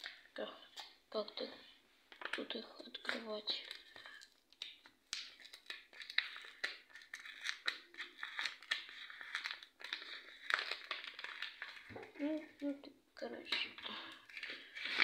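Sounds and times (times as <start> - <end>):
packaging crinkling and tearing: 2.1 - 12.6, 13.4 - 15.0.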